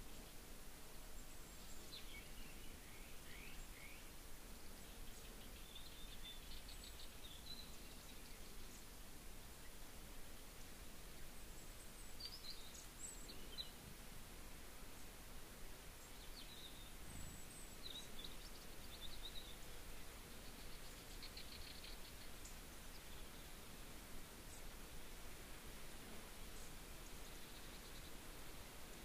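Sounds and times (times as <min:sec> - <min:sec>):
faint outdoor ambience: 0:00.0 - 0:29.0.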